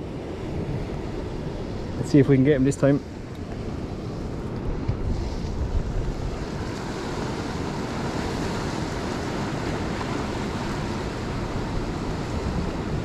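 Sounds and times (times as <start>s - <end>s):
sea surf washing: 0.0s - 13.0s
wind rumbling on microphone: 0.0s - 13.0s.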